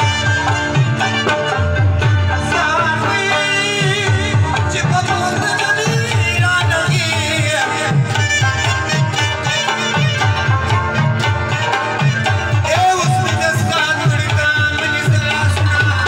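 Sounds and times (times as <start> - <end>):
harmonium playing held tones: 0.0 - 16.0
tabla rhythm: 0.0 - 16.0.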